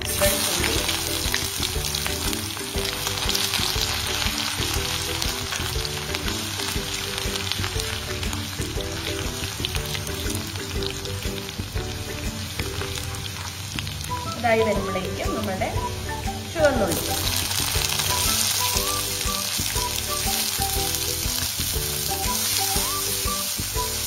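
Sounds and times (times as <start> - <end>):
garlic sizzling in hot oil: 0.0 - 24.0.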